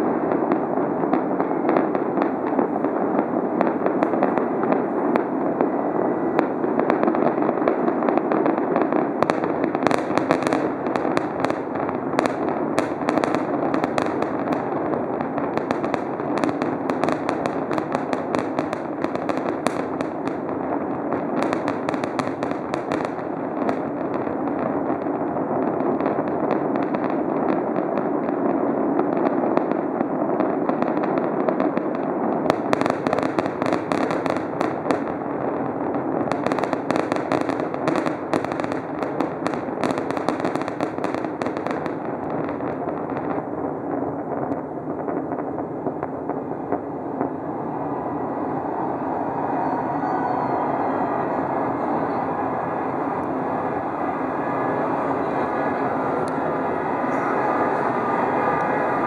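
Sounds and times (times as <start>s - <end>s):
rapid crackling pops: 0.0s - 47.5s.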